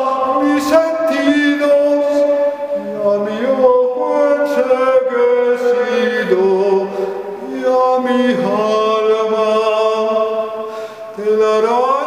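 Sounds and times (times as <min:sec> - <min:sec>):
man singing long held notes: 0:00.0 - 0:12.0.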